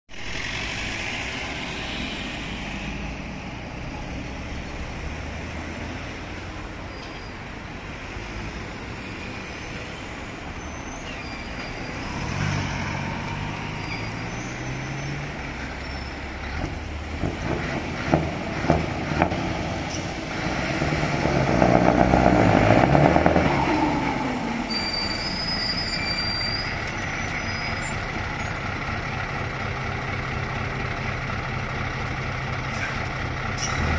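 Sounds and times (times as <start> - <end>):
diesel engine rumbling: 0.1 - 33.9.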